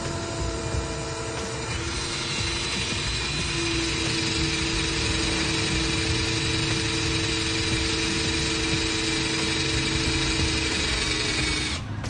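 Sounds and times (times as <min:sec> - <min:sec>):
electric drill boring into steel: 0:00.0 - 0:12.0.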